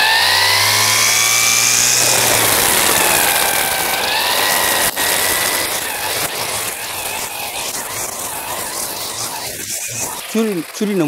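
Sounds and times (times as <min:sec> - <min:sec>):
brush cutter motor whine: 0:00.0 - 0:11.0.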